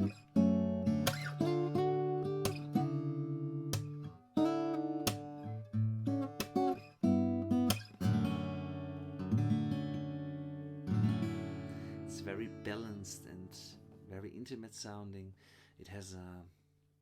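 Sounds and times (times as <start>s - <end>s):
fingerstyle acoustic guitar: 0.0s - 14.2s.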